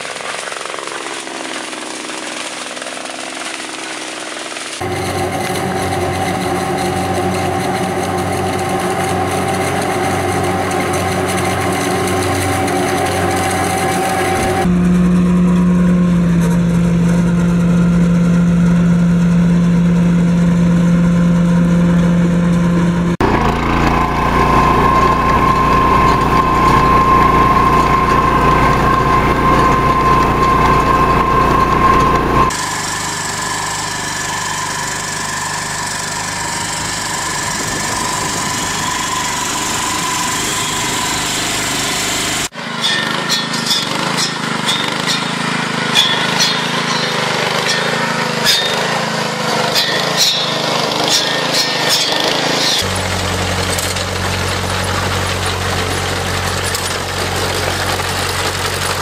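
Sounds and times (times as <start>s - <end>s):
farm machinery engines running: 0.0s - 59.0s
small cultivator engine: 0.0s - 59.0s.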